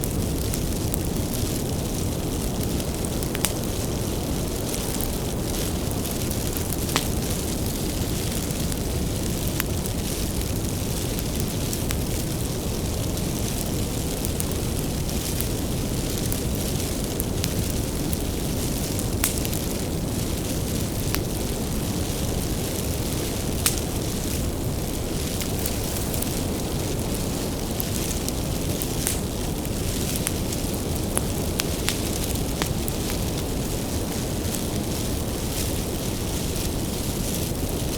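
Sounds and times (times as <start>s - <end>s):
fire crackling and popping: 0.0s - 37.9s
wood fire burning: 0.0s - 37.9s.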